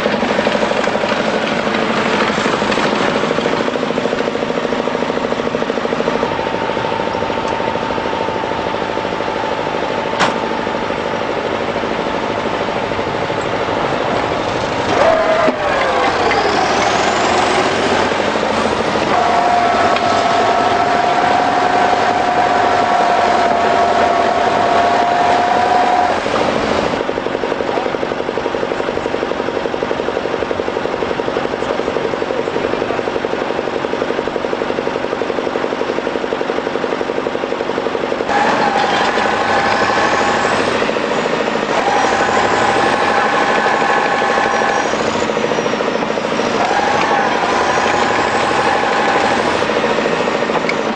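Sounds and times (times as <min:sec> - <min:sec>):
high whine: 0:00.0 - 0:50.9
tractor diesel engines straining: 0:00.0 - 0:50.9.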